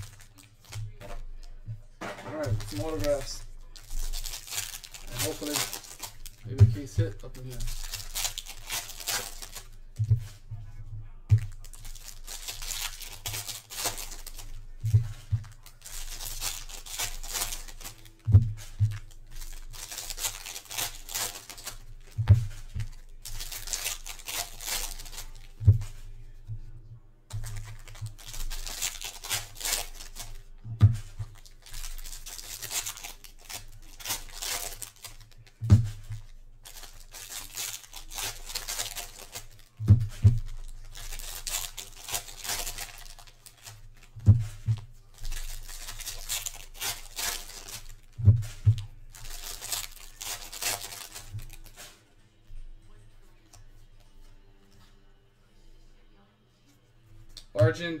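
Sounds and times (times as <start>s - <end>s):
foil wrappers crinkling and tearing: 0.0s - 26.7s, 27.3s - 52.0s.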